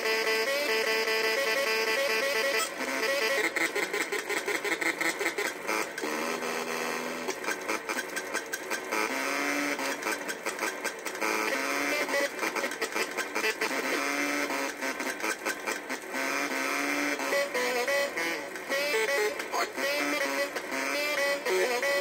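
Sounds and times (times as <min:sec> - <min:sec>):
fast glitchy clicking: 0:03.3 - 0:22.0.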